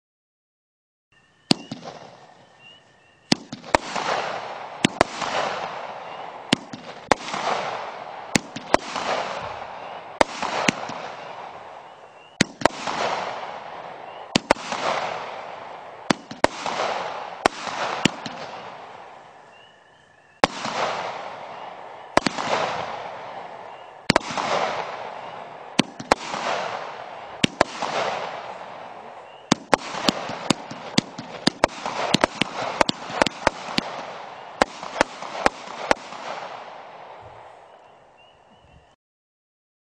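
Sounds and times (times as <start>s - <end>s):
fireworks bangs with crackle: 1.5s - 19.6s, 20.4s - 37.7s.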